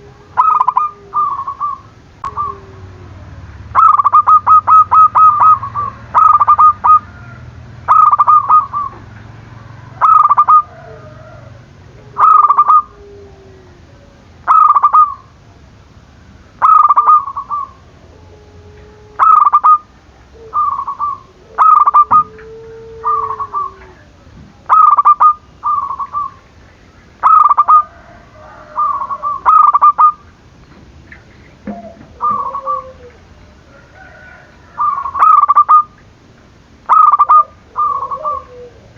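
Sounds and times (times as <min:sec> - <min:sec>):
dove cooing in stuttering bursts: 0:00.0 - 0:13.2, 0:14.4 - 0:15.4, 0:16.6 - 0:18.0, 0:19.1 - 0:24.1, 0:24.7 - 0:26.4, 0:27.2 - 0:30.3, 0:31.1 - 0:36.0, 0:36.9 - 0:38.9
low drawn-out bird calls: 0:00.0 - 0:38.9.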